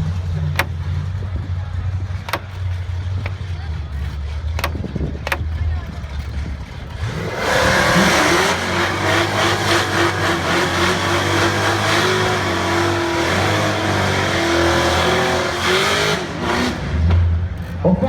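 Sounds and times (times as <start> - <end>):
spinning tyres: 0.0 - 17.9
engines revving high: 0.0 - 18.0.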